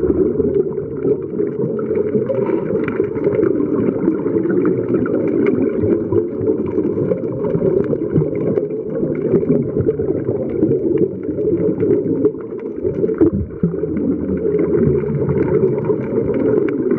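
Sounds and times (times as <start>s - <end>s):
muffled underwater rumble: 0.0s - 16.9s
water gurgling: 0.0s - 16.9s.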